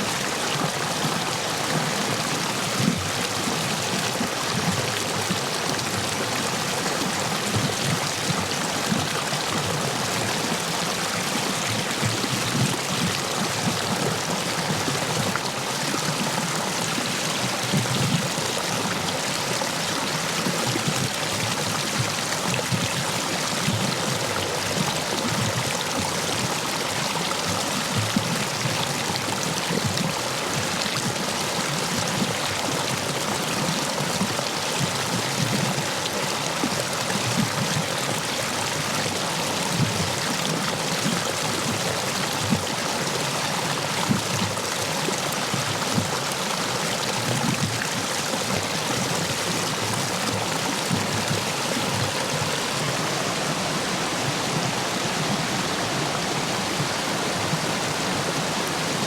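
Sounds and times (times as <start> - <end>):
stream water rushing over stones: 0.0 - 59.0.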